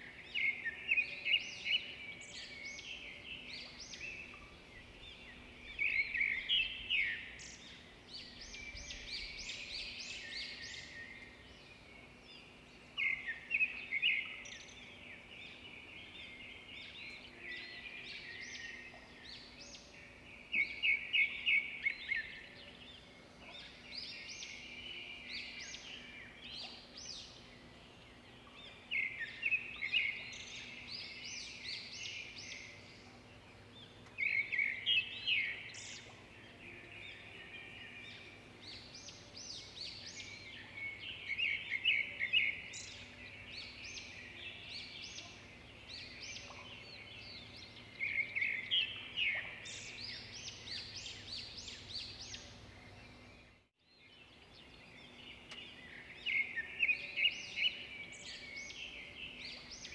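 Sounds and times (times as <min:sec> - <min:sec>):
quiet bird chirping: 0:00.0 - 0:59.9.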